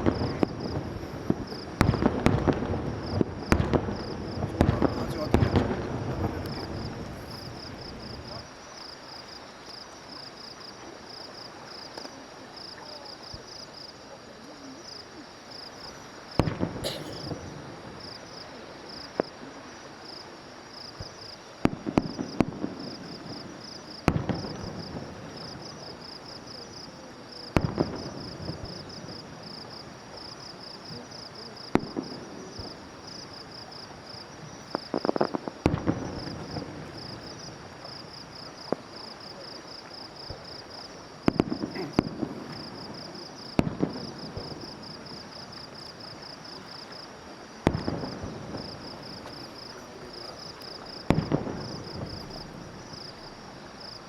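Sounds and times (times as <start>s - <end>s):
fireworks booming: 0.0s - 8.9s, 15.5s - 20.2s, 20.8s - 54.0s
fireworks crackling: 0.0s - 54.0s
insects chirping: 0.0s - 54.0s.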